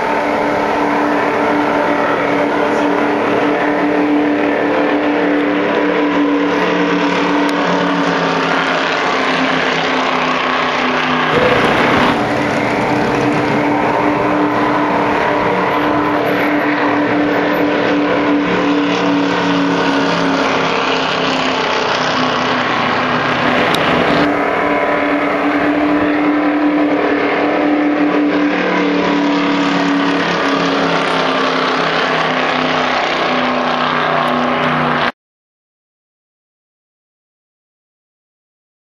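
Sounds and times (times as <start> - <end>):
race car engine at high revs: 0.0 - 35.2.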